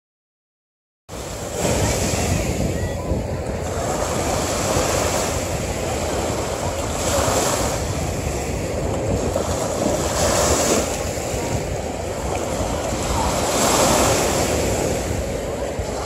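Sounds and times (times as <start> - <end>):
small waves washing on sand: 1.1 - 16.0
wind rumble on microphone: 1.1 - 16.0.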